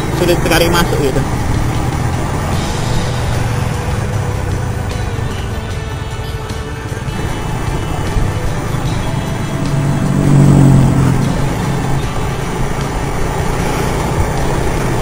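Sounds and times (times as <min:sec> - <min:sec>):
motor scooter engine: 0:00.0 - 0:15.0.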